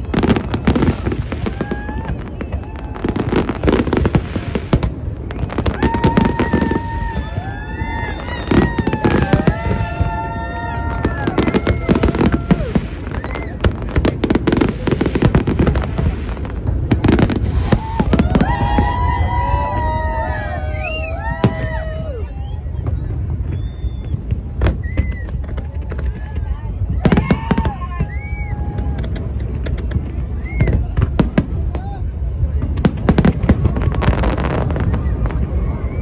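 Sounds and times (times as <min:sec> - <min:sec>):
fireworks bangs and crackles: 0:00.0 - 0:36.0
noisy crowd: 0:00.0 - 0:36.0.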